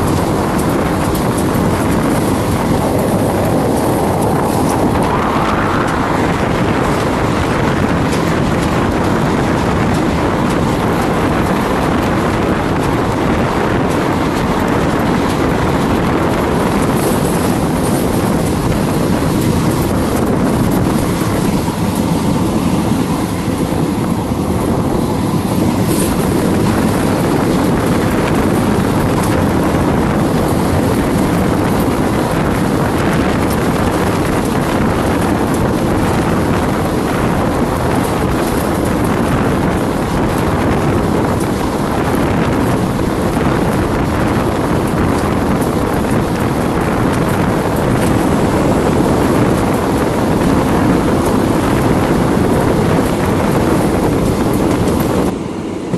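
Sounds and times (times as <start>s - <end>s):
train wheels rumbling on rails: 0.0s - 55.9s
wind buffeting microphone: 0.0s - 55.9s.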